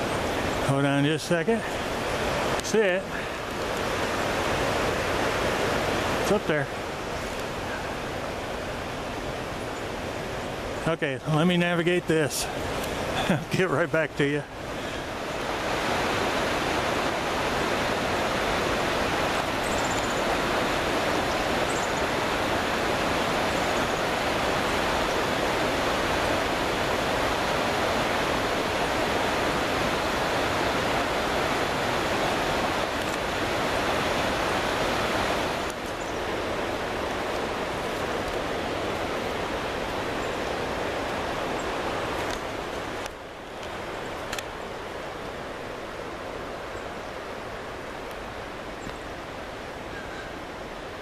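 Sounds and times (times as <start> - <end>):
creek water rushing: 0.0 - 51.0.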